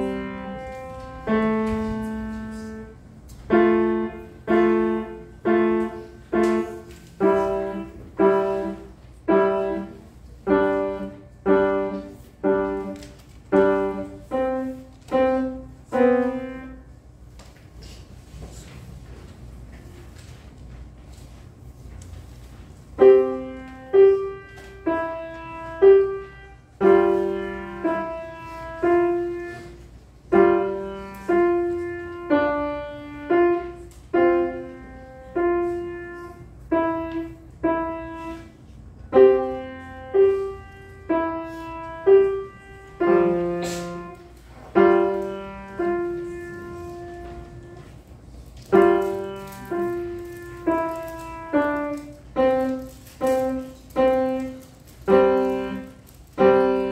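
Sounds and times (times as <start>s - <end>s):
grand piano melody: 0.0s - 17.3s, 22.8s - 56.9s.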